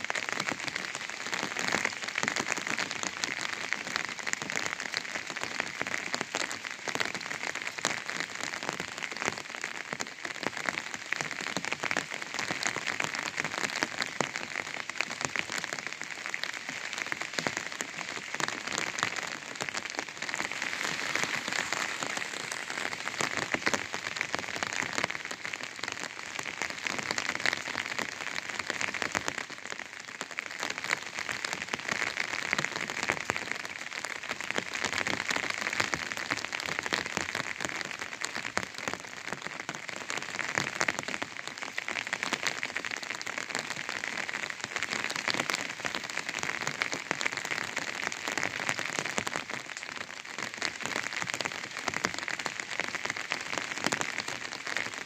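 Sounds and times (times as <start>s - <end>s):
rain on an umbrella: 0.0s - 55.0s.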